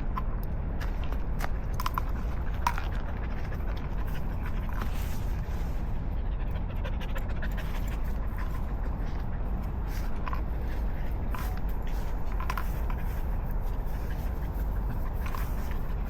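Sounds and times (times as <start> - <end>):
dog panting: 1.2 - 16.0.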